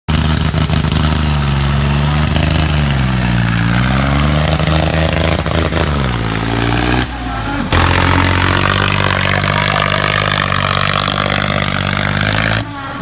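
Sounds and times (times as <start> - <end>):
tractor diesel engine revving: 0.1 - 13.0.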